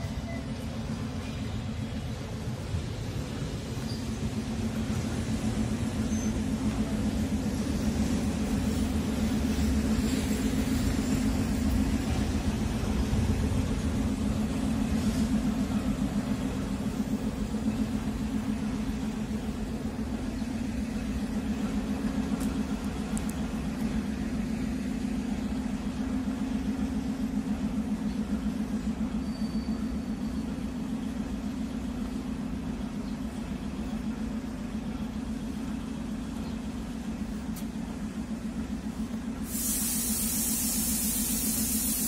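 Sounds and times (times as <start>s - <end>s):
machinery idling with throbbing hum: 0.0s - 42.0s.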